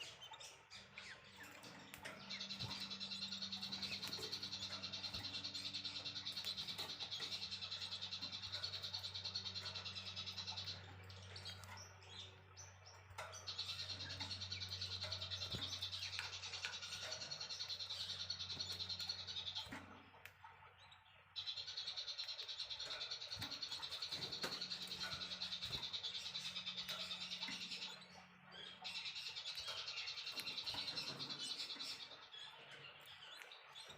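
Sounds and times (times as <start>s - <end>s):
soft bird chirps: 0.0s - 33.9s
songbird trill: 0.0s - 33.9s.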